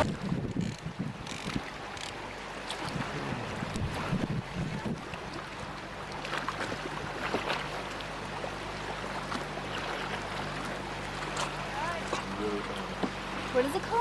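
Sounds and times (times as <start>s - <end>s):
boat motor humming: 0.0s - 14.0s
water splashing against boat: 0.0s - 14.0s.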